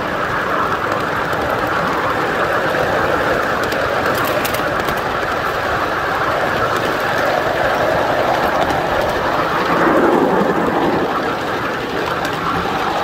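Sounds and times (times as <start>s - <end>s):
steam locomotive running on track: 0.0s - 13.0s.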